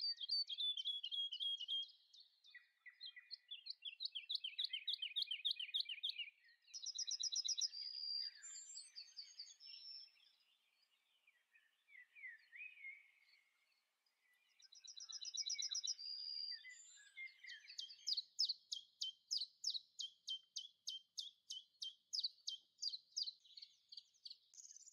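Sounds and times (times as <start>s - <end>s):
songbirds singing: 0.0s - 24.9s.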